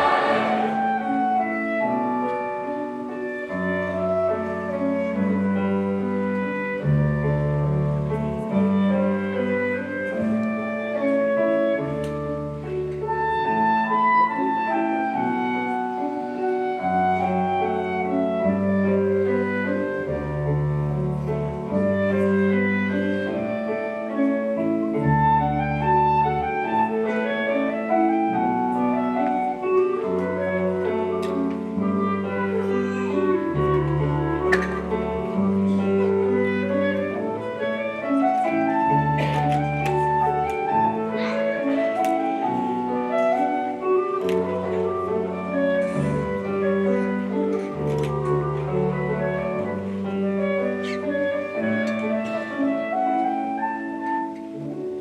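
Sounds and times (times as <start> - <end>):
instrumental music: 0.0 - 55.0.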